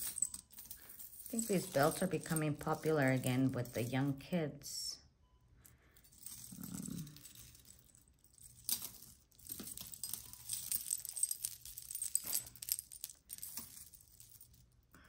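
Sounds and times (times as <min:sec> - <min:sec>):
metal jewelry jingling and clinking: 0:00.0 - 0:04.2, 0:05.6 - 0:14.9.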